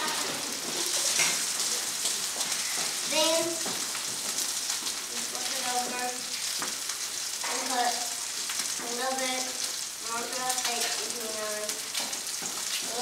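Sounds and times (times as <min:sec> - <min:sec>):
steak sizzling in a frying pan: 0:00.0 - 0:13.0.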